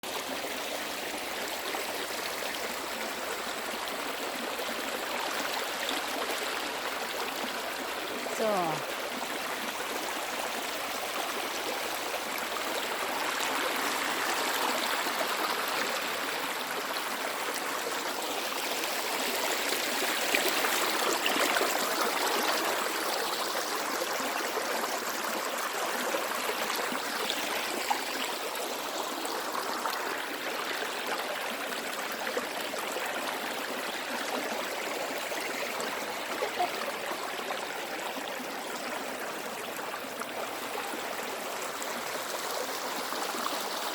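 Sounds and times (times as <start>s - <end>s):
stream water flowing and splashing: 0.0s - 43.9s.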